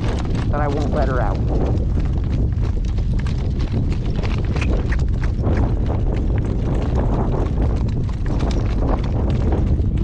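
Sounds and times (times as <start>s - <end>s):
horse hooves on hard surface: 0.0s - 10.0s
steady low rumble: 0.0s - 10.0s.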